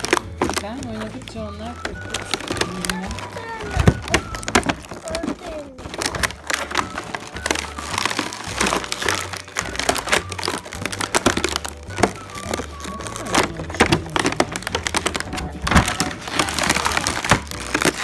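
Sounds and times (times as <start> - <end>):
plastic toy pieces clicking: 0.0 - 18.0.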